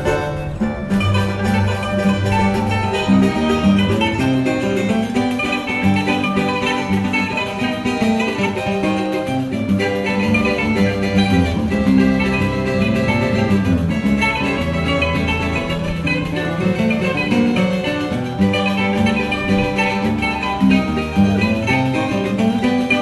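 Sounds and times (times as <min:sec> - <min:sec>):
guitar bass line: 0:00.0 - 0:23.0
plucked string ensemble: 0:00.0 - 0:23.0.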